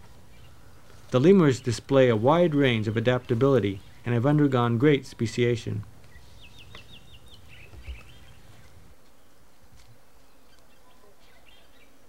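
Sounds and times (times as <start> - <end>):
steady forest hiss: 0.0 - 12.0.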